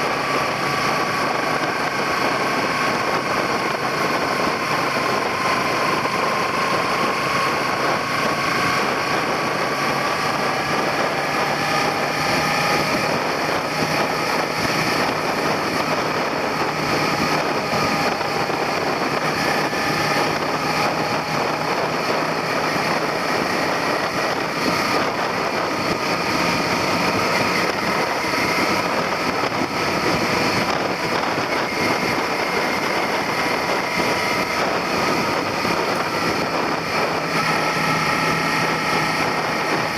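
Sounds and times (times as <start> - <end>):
motorcycle engine running: 0.0 - 39.9
wind rushing on camera: 0.0 - 39.9.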